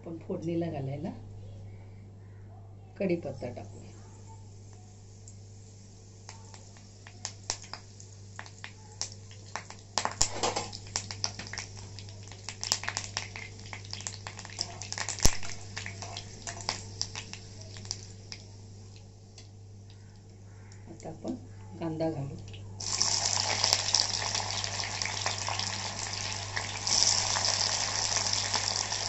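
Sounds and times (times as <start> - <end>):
leaves crackling in hot oil: 4.4 - 21.4, 22.2 - 29.0.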